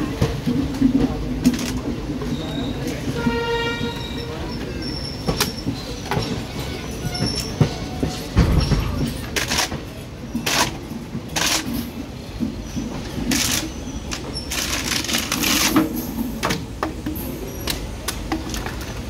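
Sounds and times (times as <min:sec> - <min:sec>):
low train rumble: 0:00.0 - 0:19.0
train coach clattering: 0:00.0 - 0:19.0.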